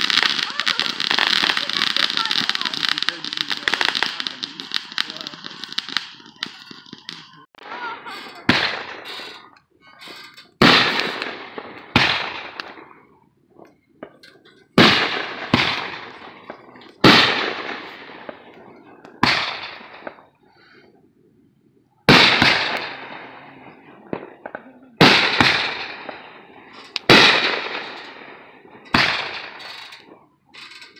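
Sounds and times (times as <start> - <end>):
fireworks bangs: 0.0 - 21.0, 22.0 - 30.9.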